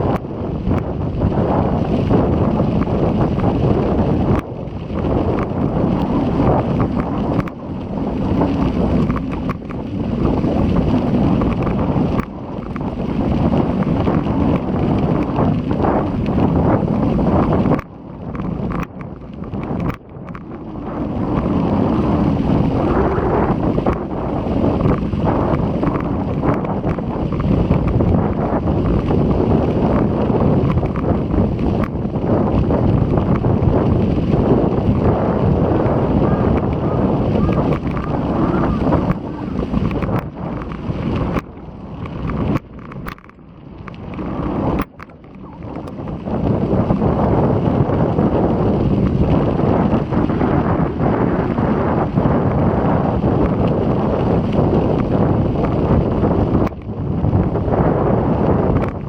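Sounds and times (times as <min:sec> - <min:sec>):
gusty wind buffeting microphone: 0:00.0 - 0:59.0.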